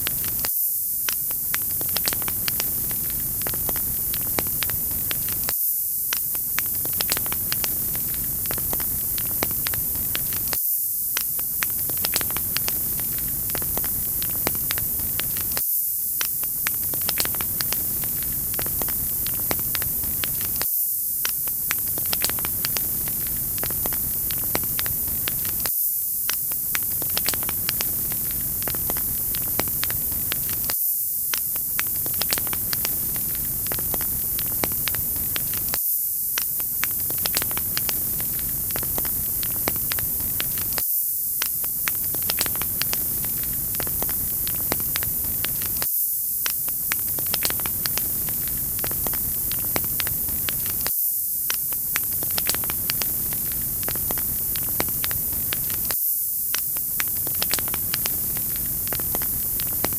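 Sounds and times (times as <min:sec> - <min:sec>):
wood fire crackling: 0:00.0 - 0:00.5, 0:01.1 - 0:05.5, 0:06.1 - 0:10.6, 0:11.2 - 0:15.6, 0:16.2 - 0:20.6, 0:21.2 - 0:35.8, 0:36.4 - 0:40.8, 0:41.4 - 0:50.9, 0:51.5 - 0:56.0, 0:56.6 - 0:59.9.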